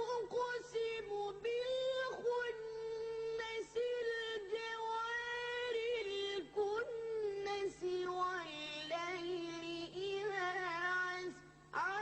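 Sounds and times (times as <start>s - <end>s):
child chanting melodically: 0.0s - 12.0s.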